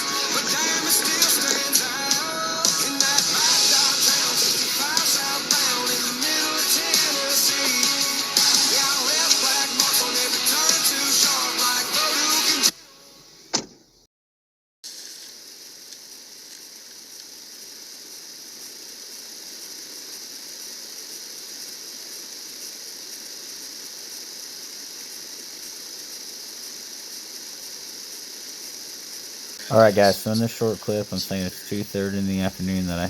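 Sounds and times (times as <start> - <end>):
steady high-pitched hiss: 0.0 - 13.5, 14.9 - 33.0.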